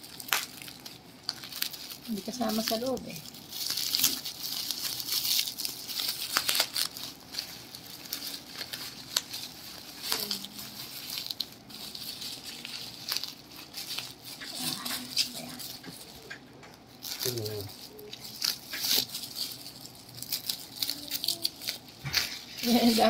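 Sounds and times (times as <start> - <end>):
bubble wrap crinkling: 0.0 - 23.0.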